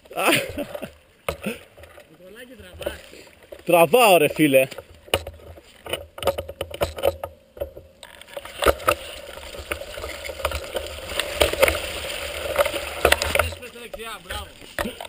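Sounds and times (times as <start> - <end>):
bike knocks and rattles: 0.4 - 15.0.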